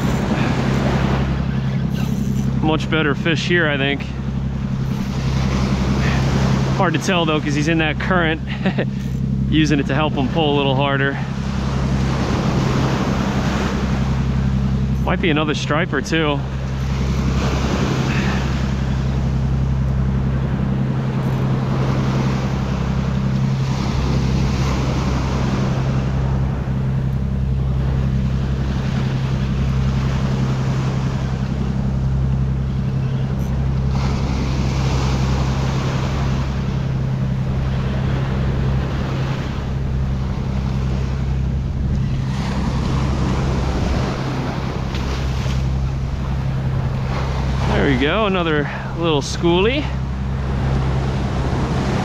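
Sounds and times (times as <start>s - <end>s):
ocean surf breaking: 0.0s - 52.0s
steady low hum: 0.0s - 52.0s.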